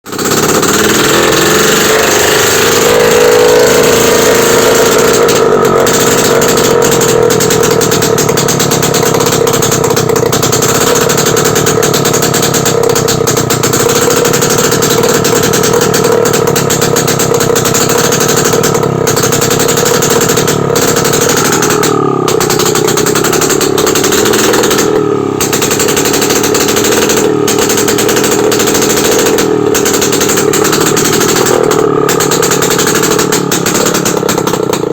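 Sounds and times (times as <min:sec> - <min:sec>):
two-stroke motorcycle engine crackling: 0:00.0 - 0:34.9.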